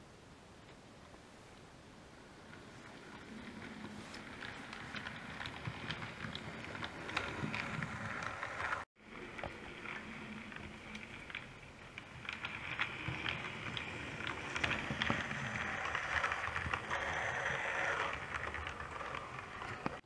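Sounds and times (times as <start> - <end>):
wheels clicking on rails: 2.1 - 20.0
model train whirring: 2.4 - 20.0.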